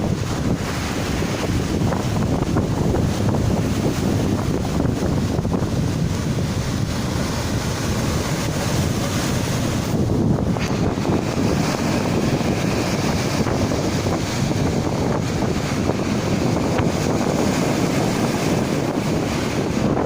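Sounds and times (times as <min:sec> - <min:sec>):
rush of turbulent water: 0:00.0 - 0:20.0
wind buffeting microphone: 0:00.0 - 0:20.0.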